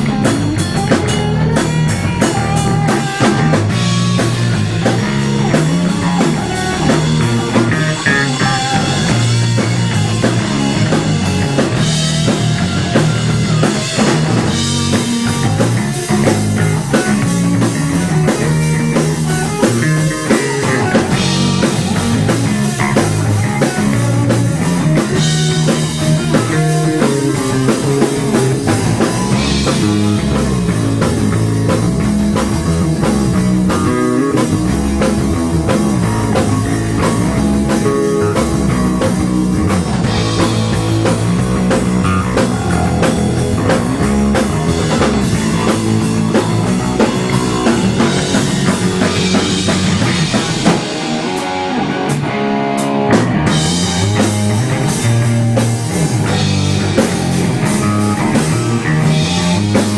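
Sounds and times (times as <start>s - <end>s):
drum kit beat: 0.0s - 59.9s
electric guitar: 0.0s - 59.9s
rock band playing: 0.0s - 59.9s.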